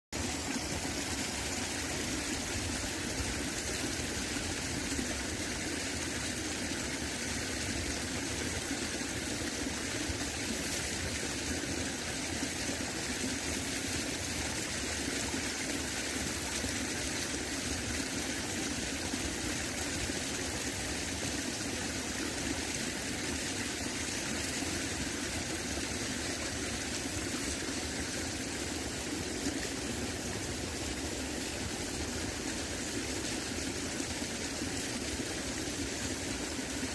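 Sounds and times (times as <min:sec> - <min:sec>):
running water flowing: 0:00.2 - 0:36.9.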